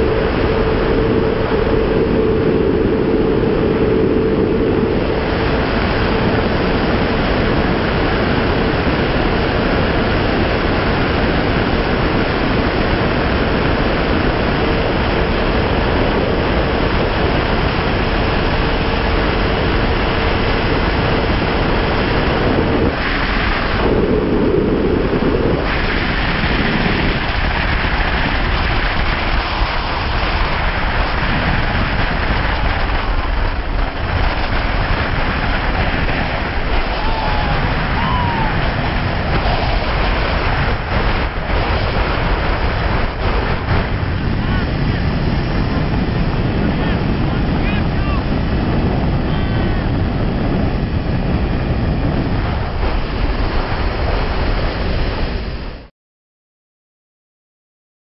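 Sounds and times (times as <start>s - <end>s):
heavy wind rush on microphone: 0.0s - 55.9s
motorcycle engine at full throttle: 0.0s - 55.9s.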